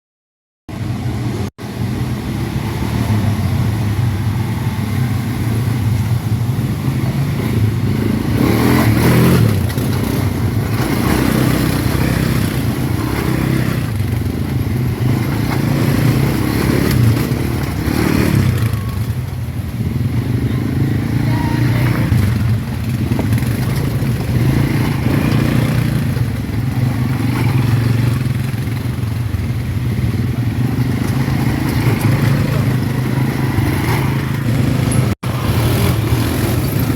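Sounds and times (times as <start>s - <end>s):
atv engines revving: 0.7s - 36.9s.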